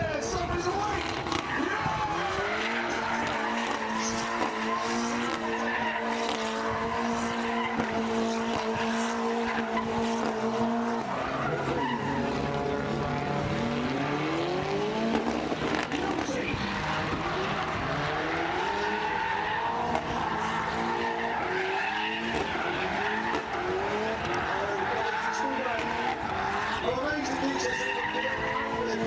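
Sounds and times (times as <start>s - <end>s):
car engine high revs: 0.0s - 29.0s
tyres squealing on tarmac: 0.6s - 13.0s, 15.8s - 29.0s.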